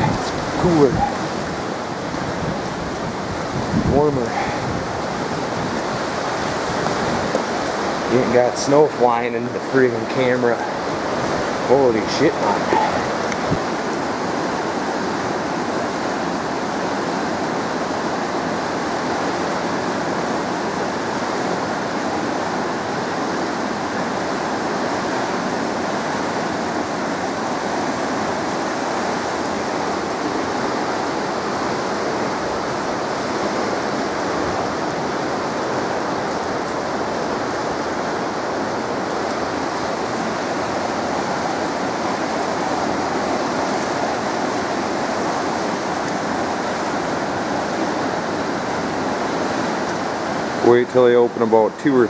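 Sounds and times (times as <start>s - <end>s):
water rushing through dam gate: 0.0s - 52.0s.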